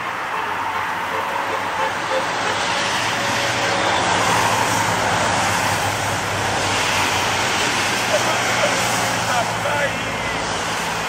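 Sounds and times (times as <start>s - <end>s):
tyres hissing on wet asphalt: 0.1s - 11.0s.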